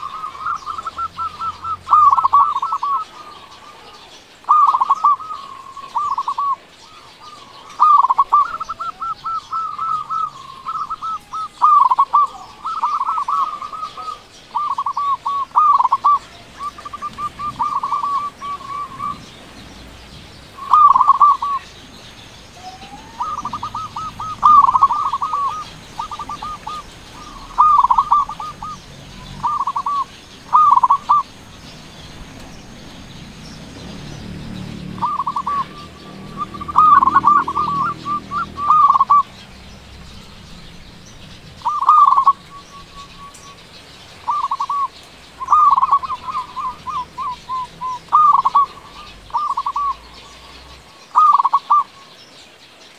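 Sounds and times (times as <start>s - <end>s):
dove cooing: 0.0s - 52.1s.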